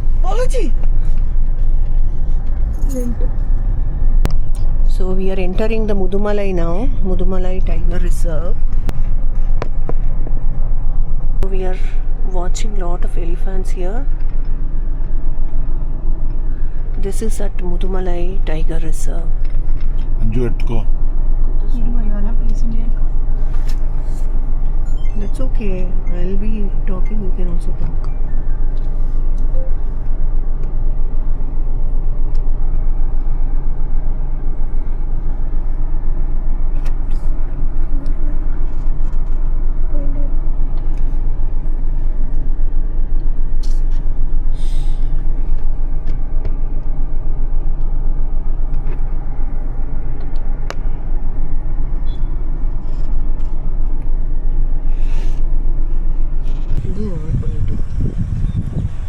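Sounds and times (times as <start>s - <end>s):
car road and engine drone: 0.0s - 59.0s.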